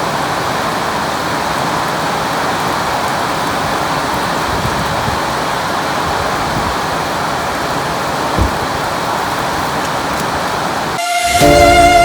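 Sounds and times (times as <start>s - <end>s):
ticks of raindrops: 0.0s - 11.0s
heavy rain hissing: 0.0s - 12.0s.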